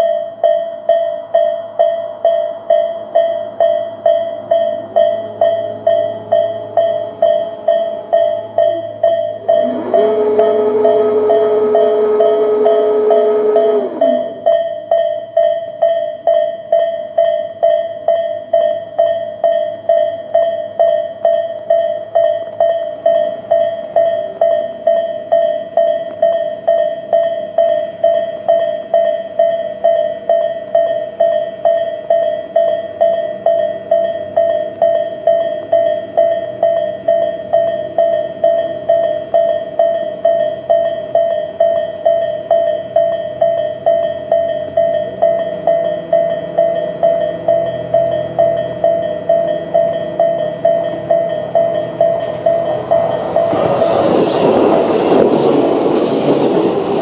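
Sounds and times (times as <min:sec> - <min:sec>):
level crossing alarm bell: 0:00.0 - 0:55.3.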